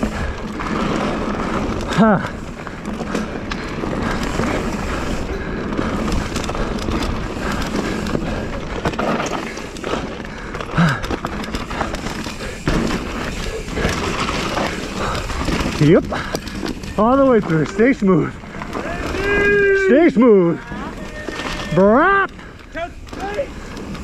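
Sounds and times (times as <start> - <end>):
bike chain and parts rattling: 0.0 - 24.0
bike tyres rolling over dirt: 0.0 - 24.0.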